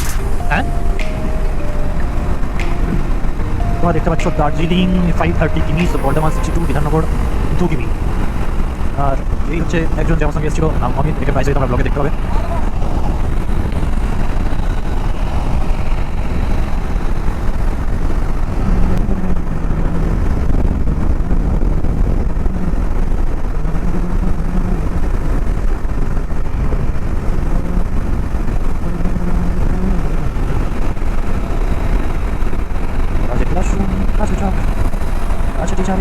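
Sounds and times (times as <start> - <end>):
motorcycle engine rumble: 0.0 - 36.0
wind noise: 0.0 - 36.0.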